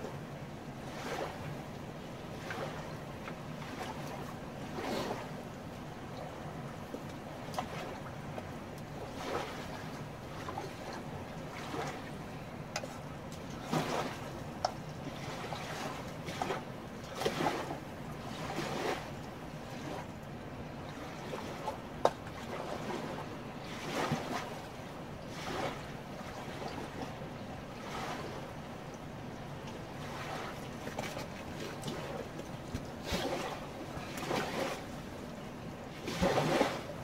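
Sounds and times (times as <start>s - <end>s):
river water lapping at shore: 0.0s - 37.0s.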